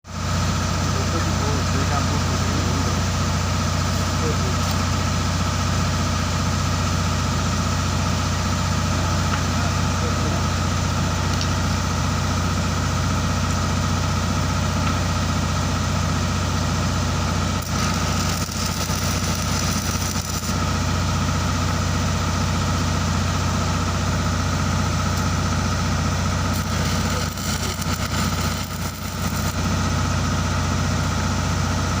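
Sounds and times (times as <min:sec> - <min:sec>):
welding machine humming: 0:00.2 - 0:31.8.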